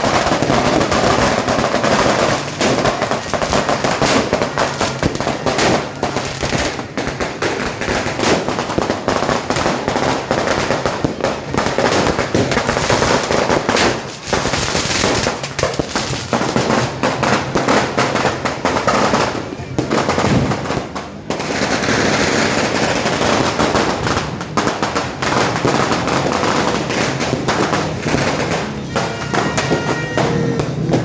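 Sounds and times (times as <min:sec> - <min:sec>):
fireworks and firecrackers banging: 0:00.0 - 0:31.0.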